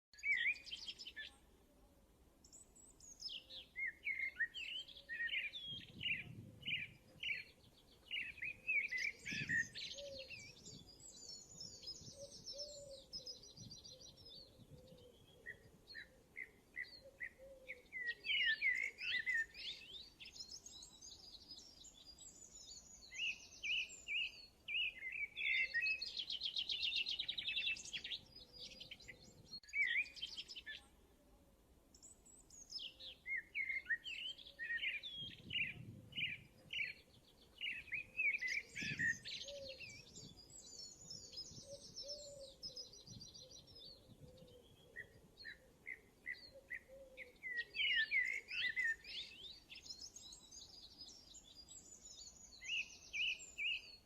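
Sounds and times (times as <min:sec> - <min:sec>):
small birds twittering: 0:00.1 - 0:01.5, 0:02.4 - 0:31.1, 0:31.9 - 0:54.0.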